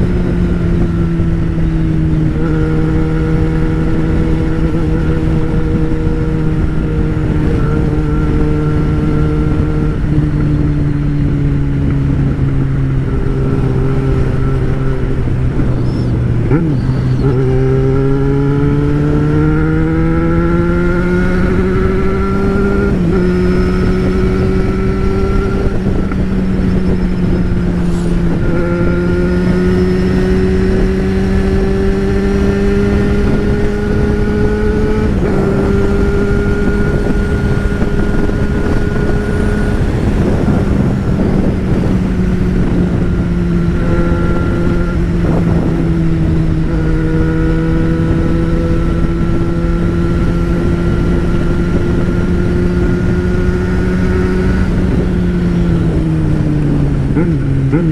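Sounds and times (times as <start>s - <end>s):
motorcycle engine running: 0.0s - 57.9s
rushing wind and road noise: 0.0s - 57.9s.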